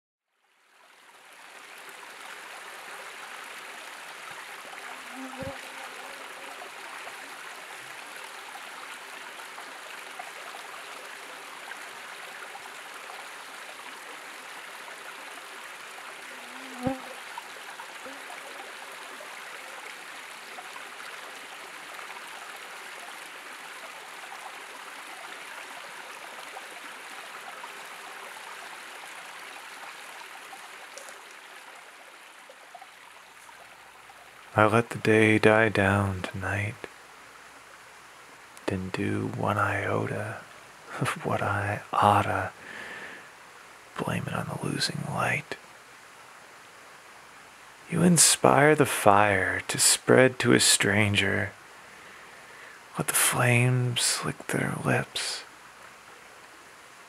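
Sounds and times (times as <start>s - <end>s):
stream running over rocks: 0.3s - 57.0s.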